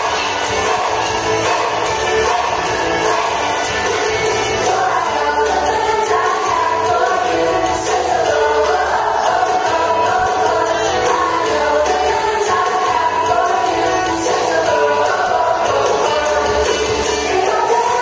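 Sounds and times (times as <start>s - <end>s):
accompanying music: 0.0s - 18.0s
children singing: 0.0s - 18.0s.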